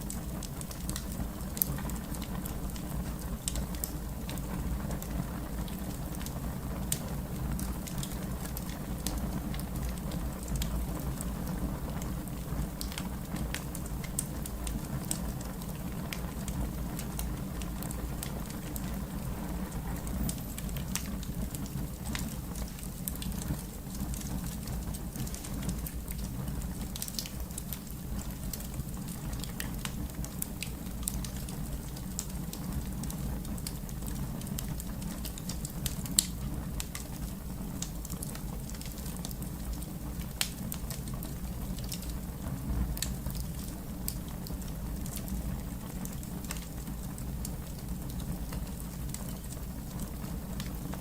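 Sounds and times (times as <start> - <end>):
fire popping and snapping: 0.0 - 51.0
fire rumbling: 0.0 - 51.0.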